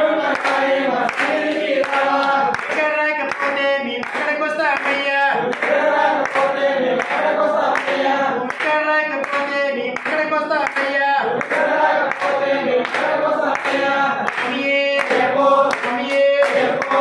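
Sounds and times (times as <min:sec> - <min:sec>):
group singing devotional song: 0:00.0 - 0:17.0
hands clapping in time: 0:00.2 - 0:17.0.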